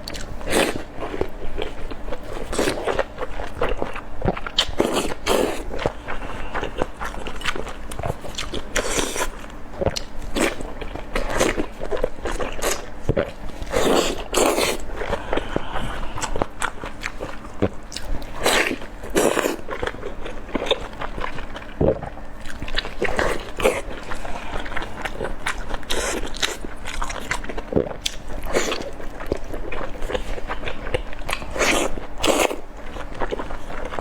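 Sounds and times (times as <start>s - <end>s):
person chewing dumplings: 0.0s - 34.0s.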